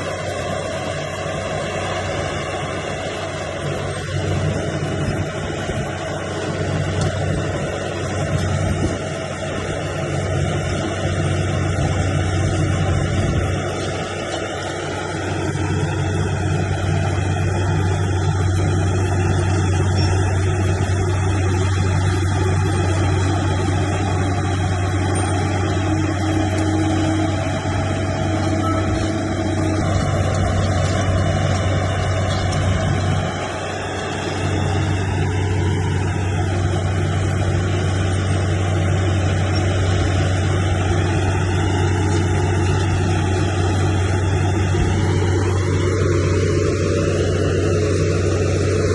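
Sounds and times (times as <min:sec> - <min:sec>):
bulldozer diesel engine humming: 0:00.0 - 0:48.9.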